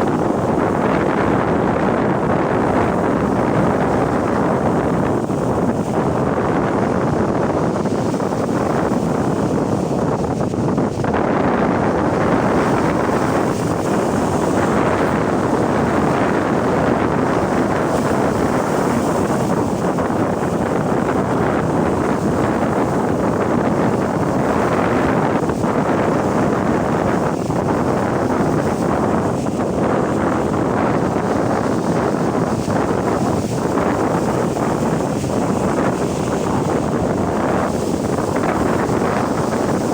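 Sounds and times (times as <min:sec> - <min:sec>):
sea waves washing: 0:00.0 - 0:39.9
wind buffeting microphone: 0:00.0 - 0:39.9.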